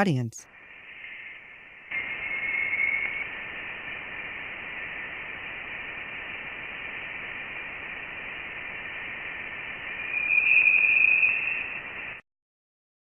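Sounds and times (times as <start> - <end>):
radio-like hiss: 0.4 - 12.2.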